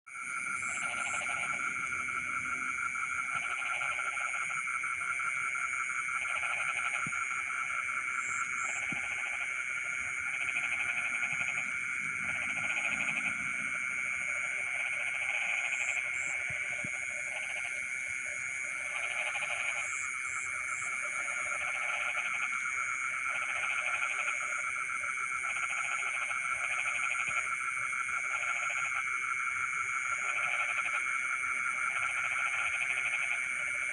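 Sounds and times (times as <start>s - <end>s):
frog chorus trilling: 0.1s - 33.9s
frogs calling in bursts: 0.1s - 33.9s
insects droning: 0.1s - 33.9s.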